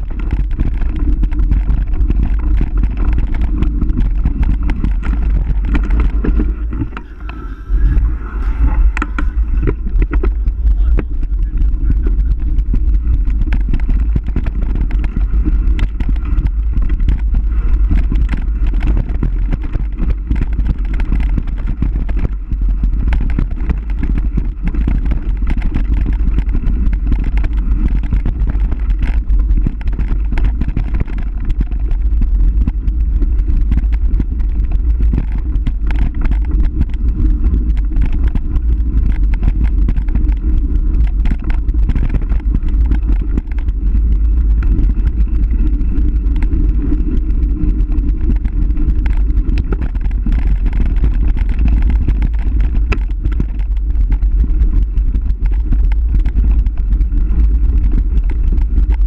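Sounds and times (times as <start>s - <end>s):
rumble and rattling of downhill ride: 0.0s - 59.0s.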